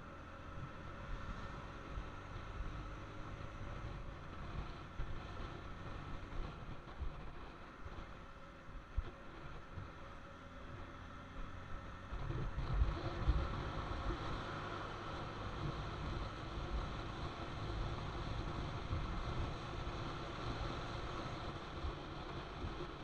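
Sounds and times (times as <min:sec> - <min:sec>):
motorcycle road rumble: 0:00.0 - 0:23.0
wind: 0:00.0 - 0:23.0.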